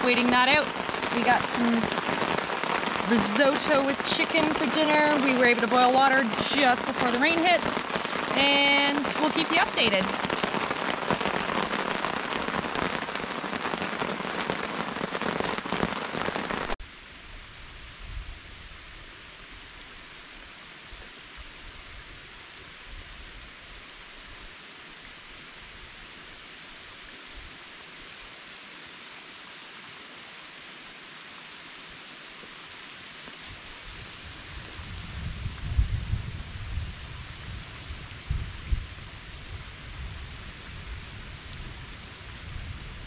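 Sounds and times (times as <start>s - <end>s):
rain falling on a lake: 0.0s - 43.0s.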